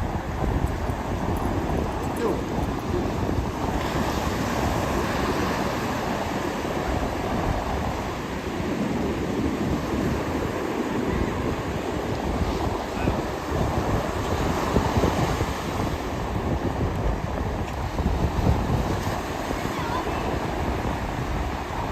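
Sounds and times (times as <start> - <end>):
wind buffeting microphone: 0.0 - 21.9
ocean surf breaking: 2.0 - 21.9.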